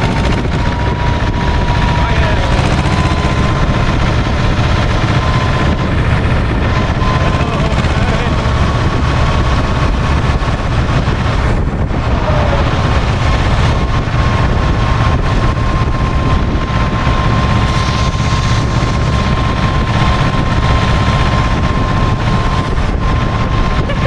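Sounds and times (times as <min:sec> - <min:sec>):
thin high whine: 0:00.0 - 0:24.0
tractor diesel engine running: 0:00.0 - 0:24.0.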